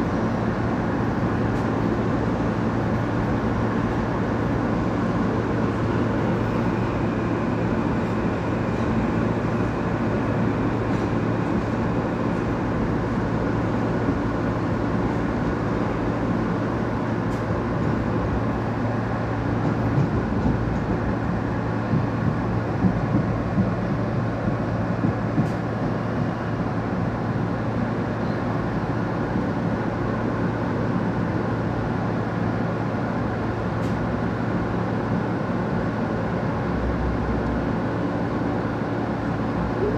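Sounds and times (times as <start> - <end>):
constant low hum: 0.0 - 39.9
wheels rumbling on rail: 0.0 - 39.9.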